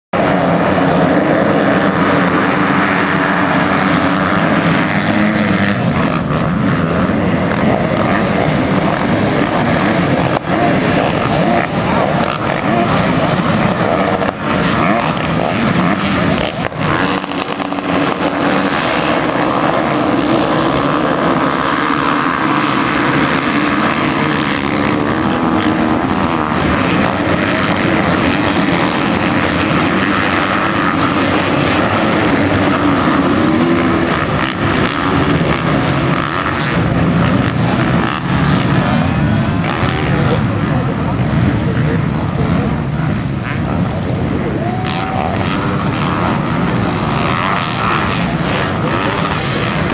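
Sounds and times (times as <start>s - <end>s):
motocross motorcycles racing: 0.2s - 49.9s.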